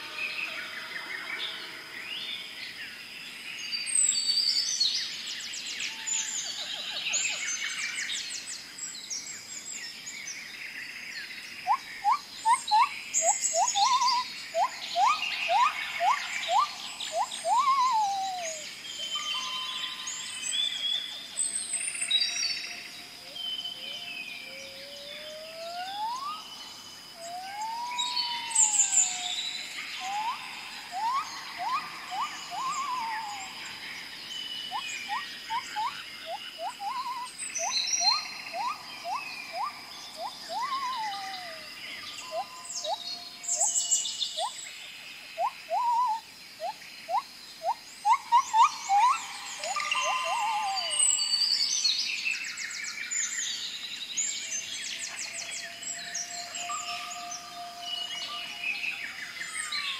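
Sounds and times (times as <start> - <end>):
birds chirping and whistling: 11.5 - 59.9.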